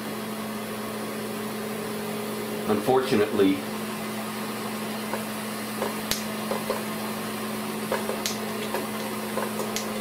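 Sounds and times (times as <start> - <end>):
projector motor humming: 0.0 - 10.0.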